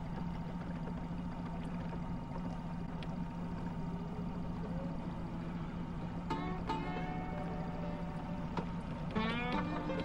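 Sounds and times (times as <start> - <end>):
small boat motor humming: 0.0 - 10.0
water rumbling against hull: 0.0 - 10.0.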